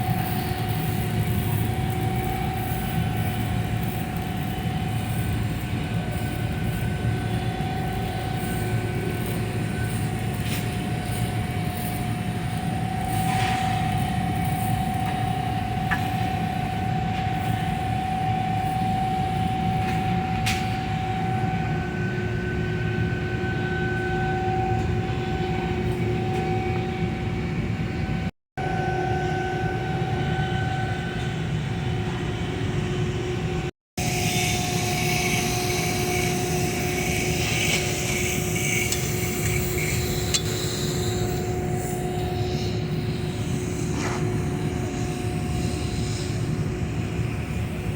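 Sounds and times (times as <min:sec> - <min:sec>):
machinery drone with high whine: 0:00.0 - 0:47.9.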